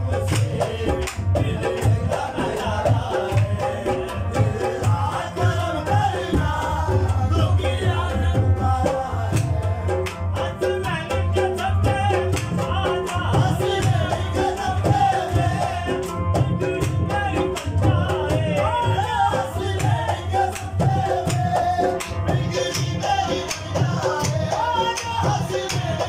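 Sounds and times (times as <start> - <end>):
ornamented singing: 0.0 - 26.0
rhythmic drum beat: 0.0 - 26.0.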